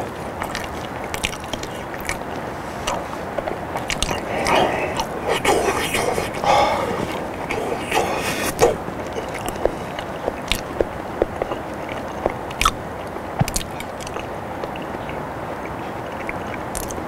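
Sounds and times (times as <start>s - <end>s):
close-miked chewing: 0.0s - 17.0s
steady background hiss: 0.0s - 17.0s.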